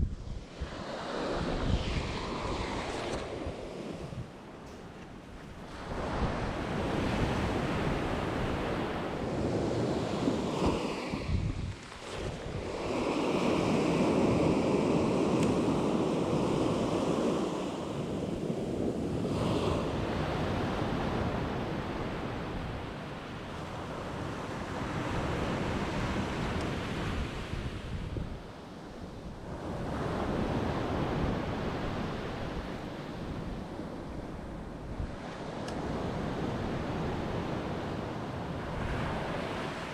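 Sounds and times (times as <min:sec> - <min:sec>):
wind buffeting microphone: 0:00.0 - 0:39.9
waves washing onto shore: 0:00.2 - 0:39.9.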